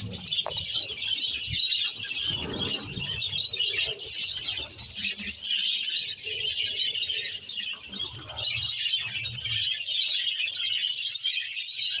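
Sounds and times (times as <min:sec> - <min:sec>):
budgies chattering and chirping: 0:00.0 - 0:12.0.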